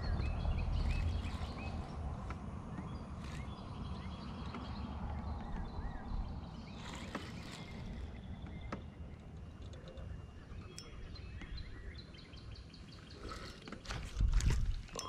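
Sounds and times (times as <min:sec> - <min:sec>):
birds chirping: 0:00.0 - 0:15.0
low steady outdoor rumble: 0:00.0 - 0:15.0.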